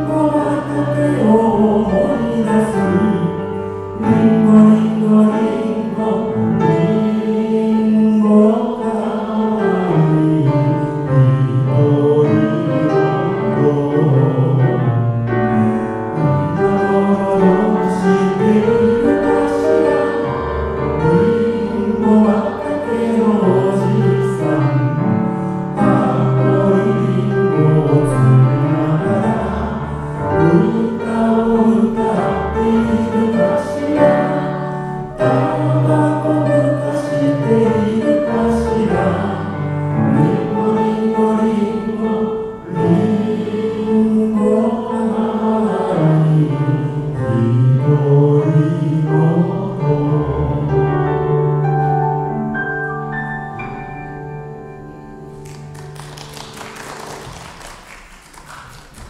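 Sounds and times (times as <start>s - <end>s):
man singing: 0.0s - 20.2s, 20.9s - 51.3s
group of voices singing: 0.0s - 51.4s
grand piano accompaniment: 0.0s - 59.0s.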